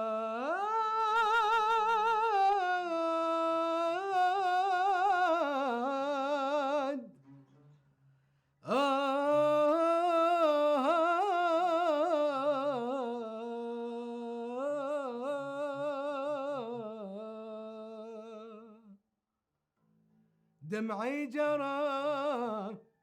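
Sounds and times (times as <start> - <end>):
person singing unaccompanied: 0.0 - 7.2, 8.7 - 18.9, 20.7 - 22.8.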